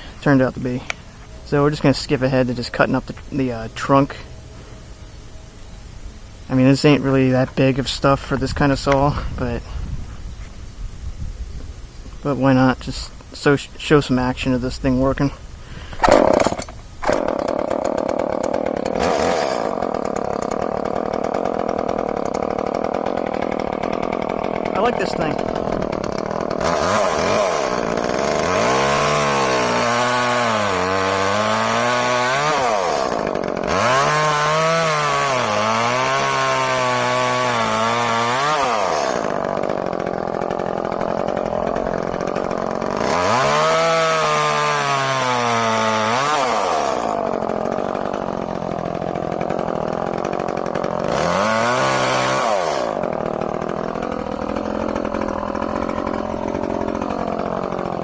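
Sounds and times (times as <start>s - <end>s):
chainsaw idling: 0.0s - 9.8s, 12.2s - 58.0s
chainsaw cutting wood: 6.4s - 9.8s, 12.1s - 58.0s.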